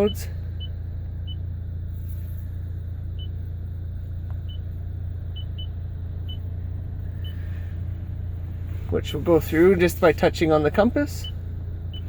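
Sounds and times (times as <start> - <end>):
low cabin hum: 0.0 - 12.0.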